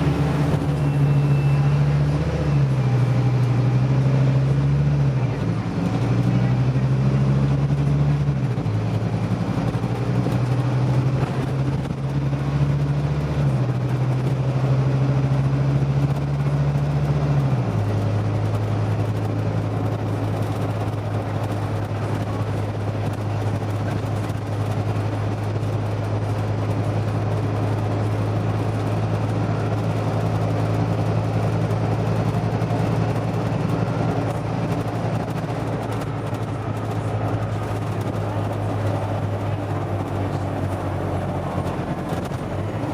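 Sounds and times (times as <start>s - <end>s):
bus engine running: 0.0s - 42.9s
road noise: 0.0s - 42.9s.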